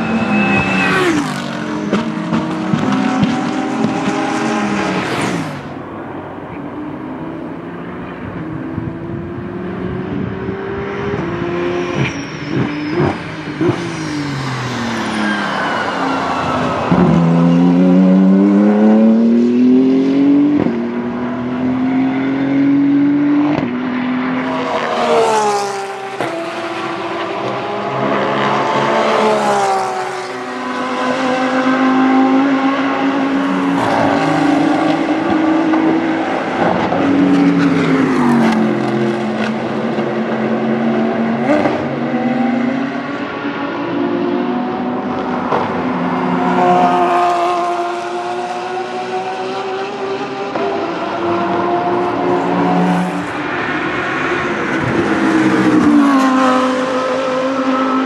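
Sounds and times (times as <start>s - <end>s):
cars passing at speed: 0.0s - 58.0s
race car engines revving: 0.0s - 58.0s.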